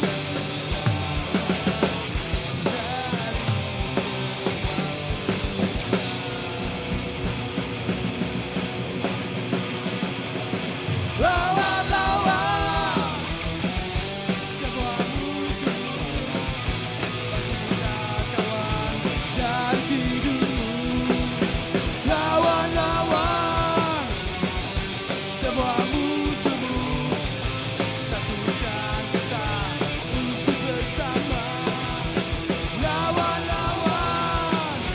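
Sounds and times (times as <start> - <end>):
live punk rock band: 0.0 - 34.9.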